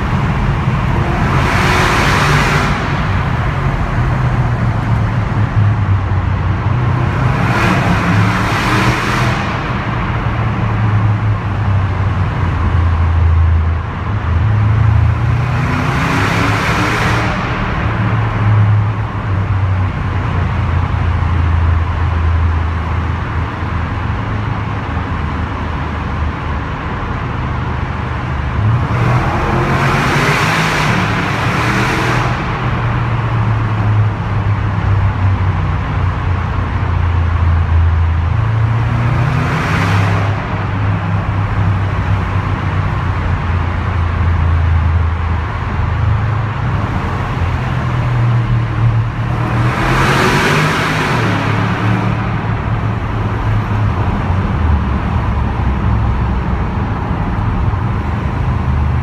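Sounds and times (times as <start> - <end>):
car engine droning: 0.0 - 59.0
engine revving with loud exhaust: 0.0 - 59.0.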